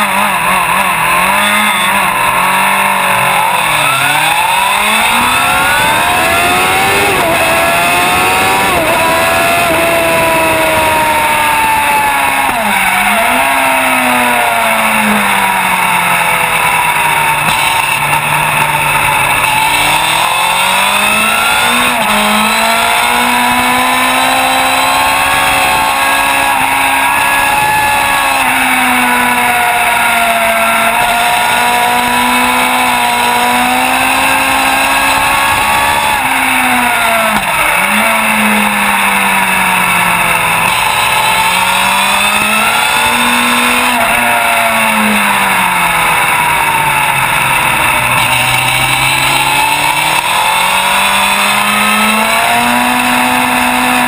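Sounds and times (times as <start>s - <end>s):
motorbike engine at full throttle: 0.0s - 54.0s.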